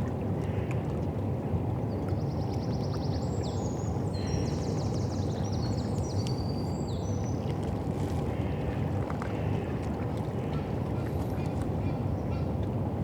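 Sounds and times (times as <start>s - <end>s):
low rumble of river and city: 0.0s - 13.0s.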